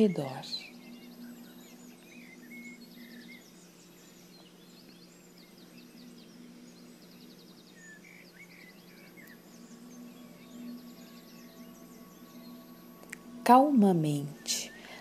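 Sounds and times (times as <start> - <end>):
low steady hum: 0.0 - 15.0
songbirds chirping and trilling: 0.0 - 15.0.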